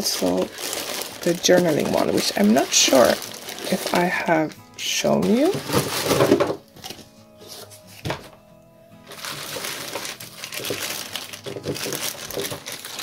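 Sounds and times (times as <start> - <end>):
plastic zip bag crinkling: 0.0 - 7.7, 9.1 - 13.0
background music: 0.0 - 13.0.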